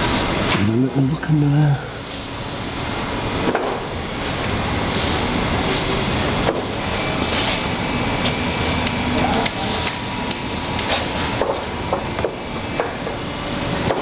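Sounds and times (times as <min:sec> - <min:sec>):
workshop hum: 0:00.0 - 0:14.0.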